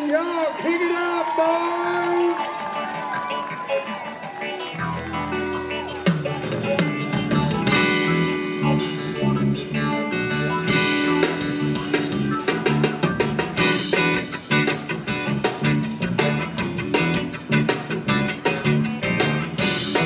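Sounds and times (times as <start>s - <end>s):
electric guitars: 2.0s - 20.0s
bass line: 2.6s - 20.0s
drum kit beat: 2.6s - 20.0s.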